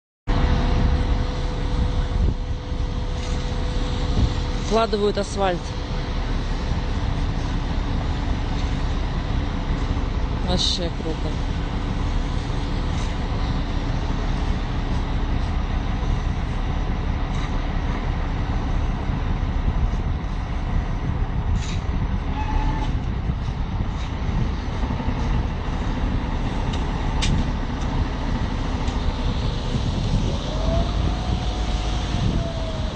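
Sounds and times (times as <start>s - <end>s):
traffic: 0.3s - 32.9s
truck engine rumble: 0.3s - 32.9s.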